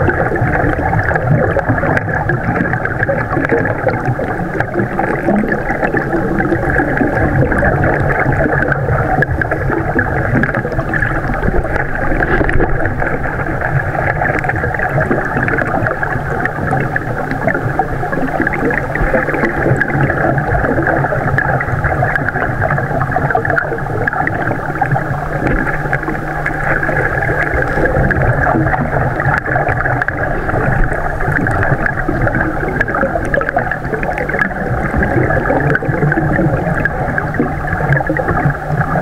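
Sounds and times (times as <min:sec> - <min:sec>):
muffled underwater rushing water: 0:00.0 - 0:39.0.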